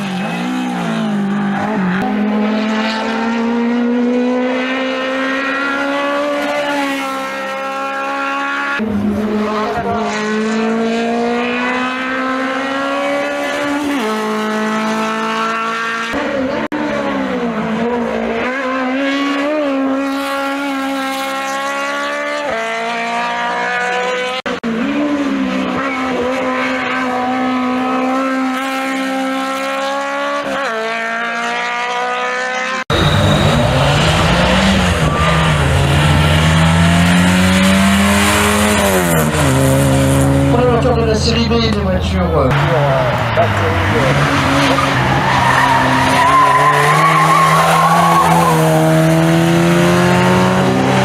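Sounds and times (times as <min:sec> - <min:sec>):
race car engines revving hard: 0:00.0 - 0:51.0.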